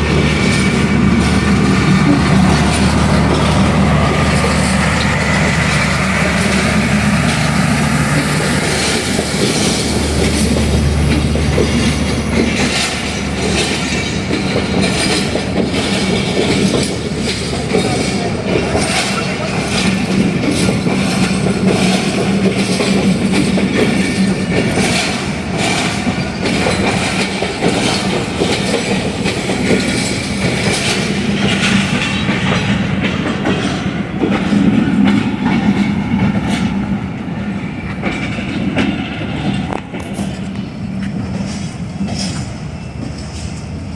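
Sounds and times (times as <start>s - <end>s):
locomotive engine humming: 0.0s - 43.9s
train wheels clacking over rail joints: 0.0s - 43.9s.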